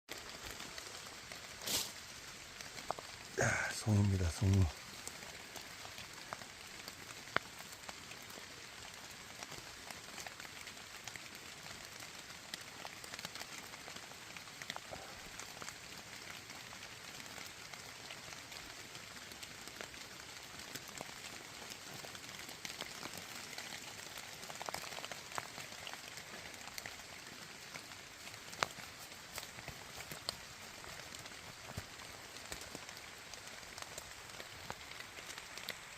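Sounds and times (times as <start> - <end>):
light rain in a forest: 0.1 - 35.9
raindrops ticking: 0.1 - 35.9.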